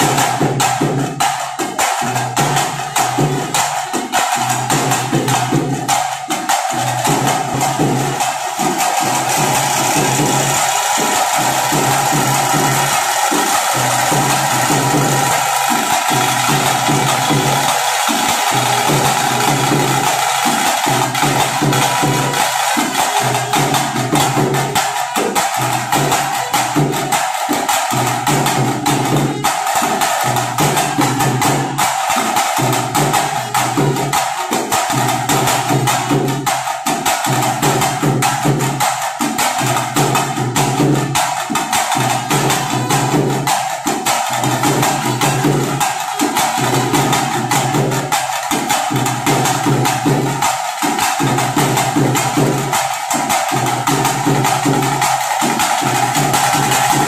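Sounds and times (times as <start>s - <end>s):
fast drumming with sticks: 0.0s - 57.0s.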